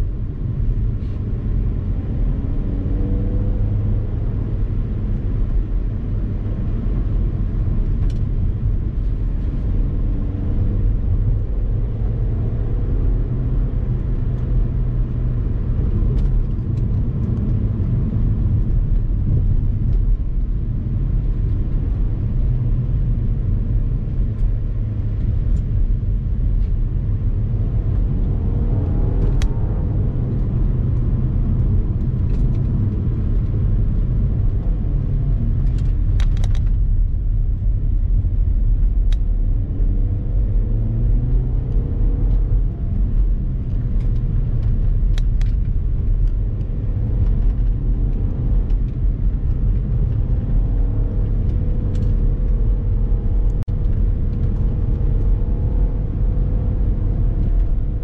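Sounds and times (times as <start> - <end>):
car engine: 0.0 - 58.0
road and wind noise: 0.0 - 58.0.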